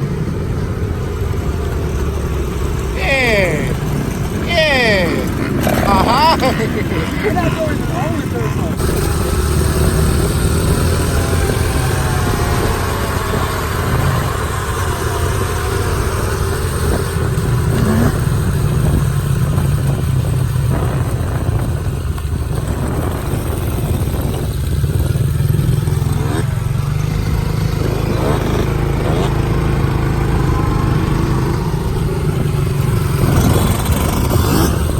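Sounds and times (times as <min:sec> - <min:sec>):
dirt bike engines running: 0:00.0 - 0:34.9.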